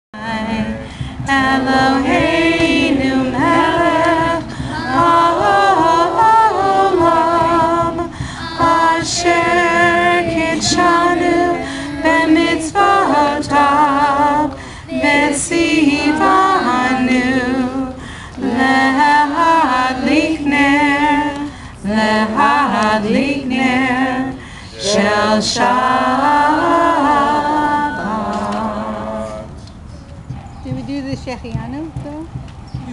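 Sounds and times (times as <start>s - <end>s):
woman singing over a pa: 0.2s - 29.5s.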